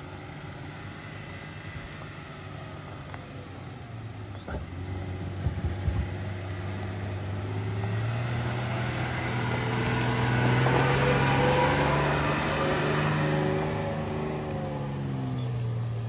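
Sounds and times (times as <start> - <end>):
truck engine pulling uphill: 0.0 - 16.0.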